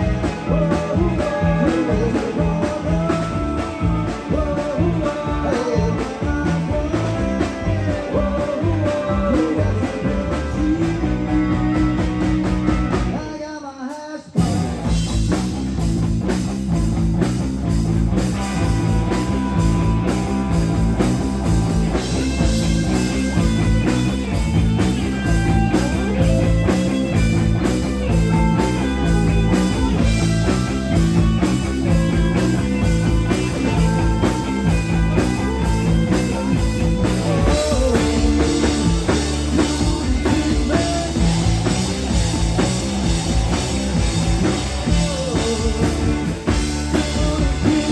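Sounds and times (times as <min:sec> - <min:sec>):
drum kit: 0:00.0 - 0:47.9
electric guitar: 0:00.0 - 0:47.9
rock band playing loud: 0:00.0 - 0:47.9.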